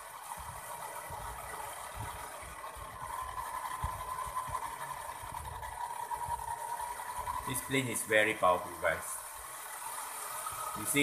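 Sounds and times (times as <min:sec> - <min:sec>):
toy helicopter motors whining: 0:00.0 - 0:11.0.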